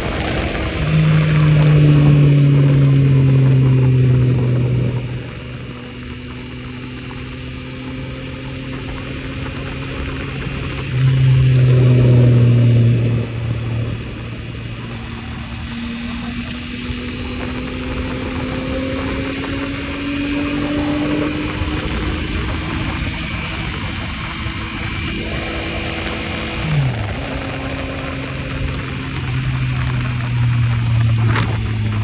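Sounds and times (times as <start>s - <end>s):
motorcycle engine: 0.0s - 32.0s.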